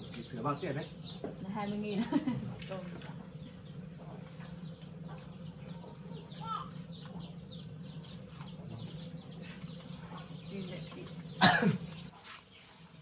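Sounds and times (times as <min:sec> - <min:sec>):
steady low hum: 0:00.0 - 0:12.1
birds chirping: 0:00.0 - 0:13.0.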